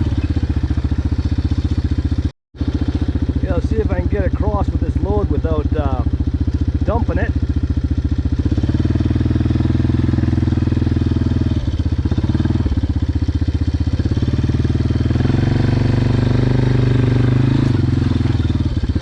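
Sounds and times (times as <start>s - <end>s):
quad engine running at low speed: 0.0s - 19.0s.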